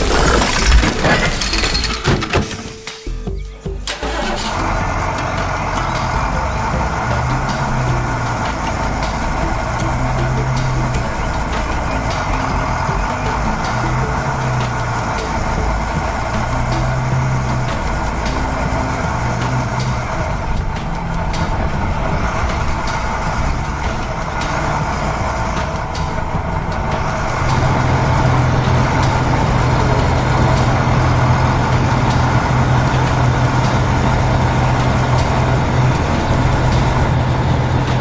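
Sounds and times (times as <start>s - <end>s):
heavy vehicle engine running: 0.0s - 38.0s.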